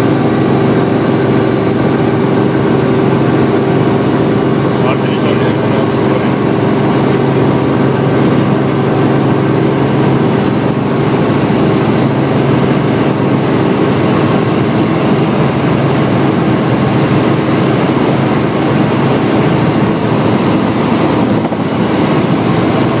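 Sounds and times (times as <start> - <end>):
helicopter engine and rotors droning: 0.0 - 23.0.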